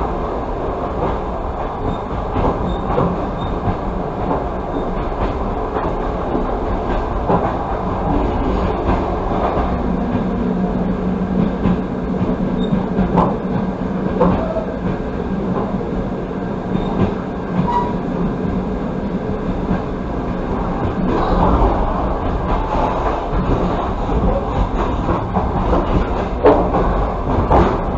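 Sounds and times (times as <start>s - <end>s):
train wheels rumbling on track: 0.0s - 27.9s.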